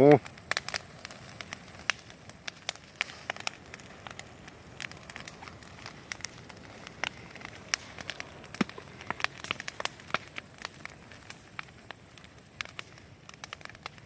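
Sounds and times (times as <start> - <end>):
burning wood crackling: 0.0 - 14.0
rush of flame: 0.0 - 14.0.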